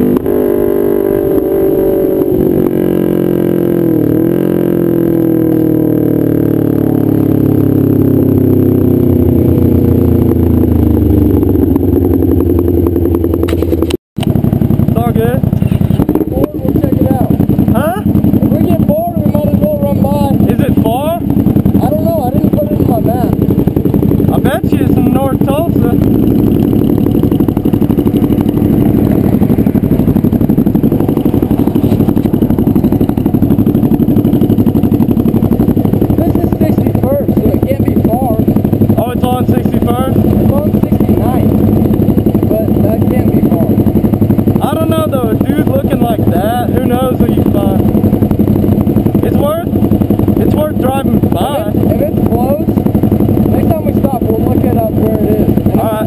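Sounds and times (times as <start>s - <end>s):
motorcycle exhaust slowing to idle: 0.0s - 56.0s.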